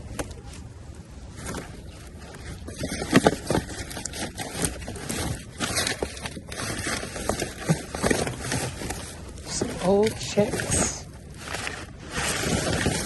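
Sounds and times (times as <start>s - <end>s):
rummaging through dumpster items: 0.0s - 13.0s.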